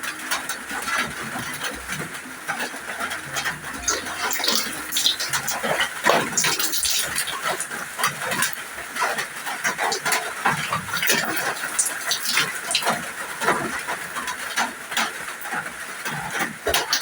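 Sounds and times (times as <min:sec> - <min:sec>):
water splashing and dripping: 0:00.9 - 0:17.0.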